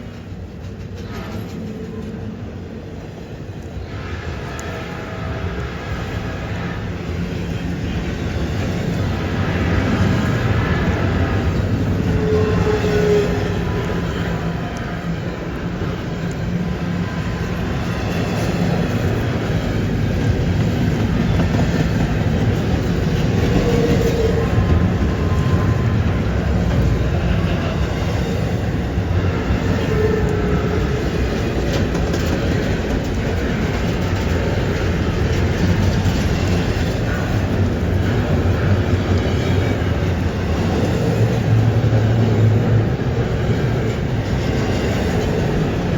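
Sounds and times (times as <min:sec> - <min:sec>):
train wheel squeals: 0:00.2 - 0:45.9.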